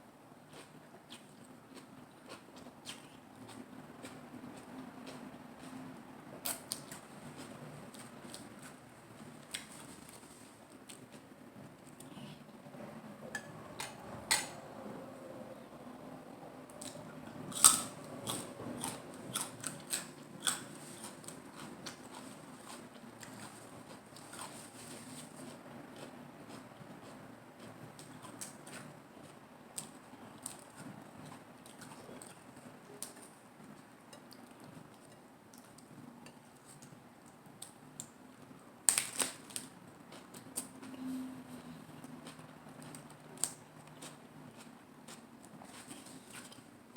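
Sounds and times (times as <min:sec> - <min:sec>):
crunching and chewing lettuce: 0:00.5 - 0:12.1, 0:16.7 - 0:36.0, 0:38.8 - 0:41.0, 0:42.0 - 0:46.8.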